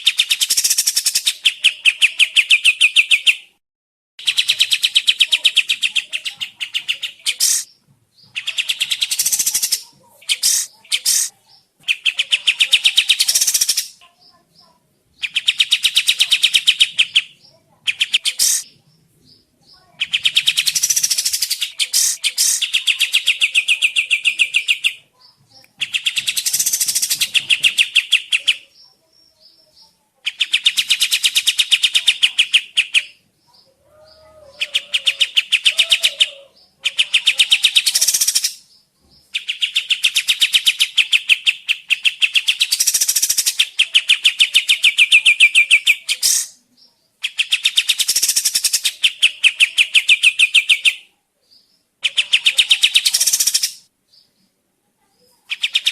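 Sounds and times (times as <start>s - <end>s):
bird rapid chattering song: 0.0s - 3.5s, 4.2s - 54.5s, 55.1s - 55.9s.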